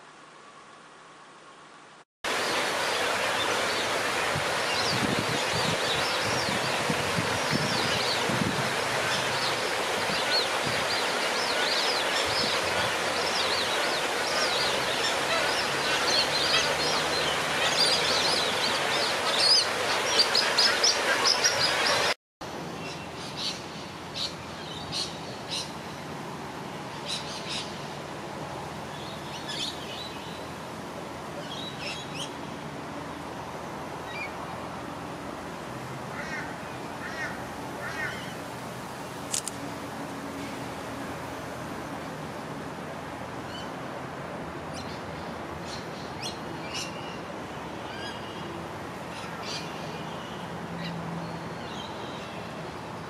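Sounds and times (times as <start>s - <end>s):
outdoor background noise: 0.0s - 53.0s.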